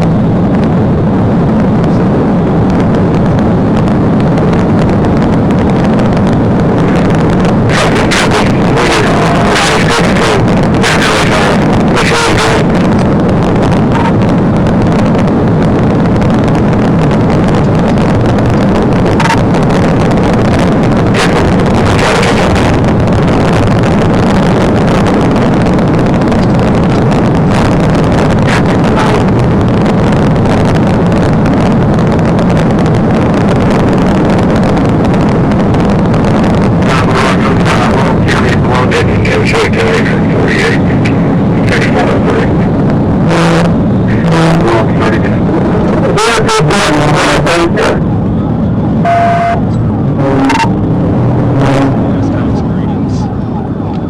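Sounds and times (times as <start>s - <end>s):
car engine and road noise: 0.0s - 54.0s
wind noise: 0.0s - 54.0s.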